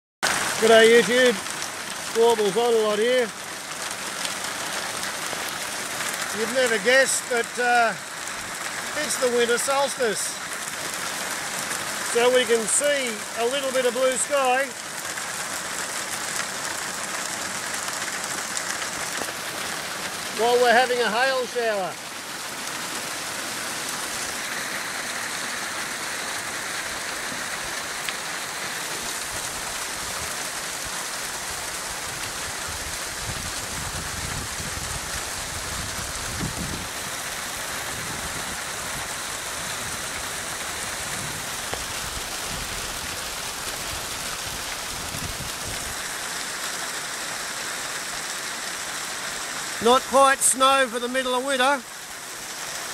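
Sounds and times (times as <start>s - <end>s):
hail pattering on ground: 0.2s - 52.9s.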